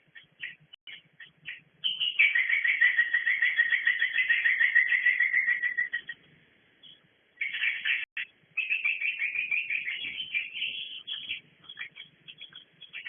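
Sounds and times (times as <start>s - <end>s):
swiftlets twittering: 0.1s - 6.2s, 6.8s - 13.0s.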